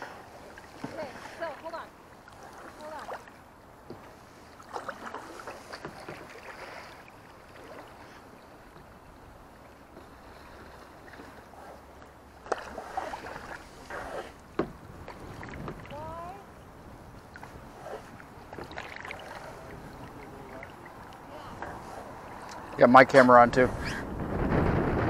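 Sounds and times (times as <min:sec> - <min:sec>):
kayak paddle splashing: 0:00.0 - 0:24.0
water lapping against hull: 0:00.0 - 0:25.0.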